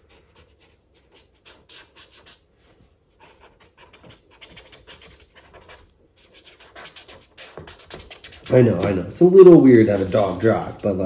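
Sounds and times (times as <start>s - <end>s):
marker drawing on paper: 0.0s - 10.8s.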